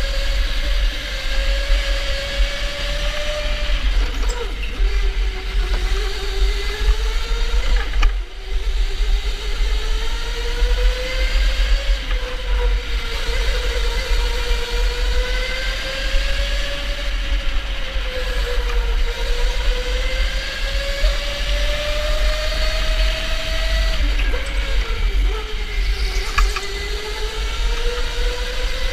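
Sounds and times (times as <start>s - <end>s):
low rumble of kart on track: 0.0s - 28.9s
electric motor whining: 1.3s - 28.9s.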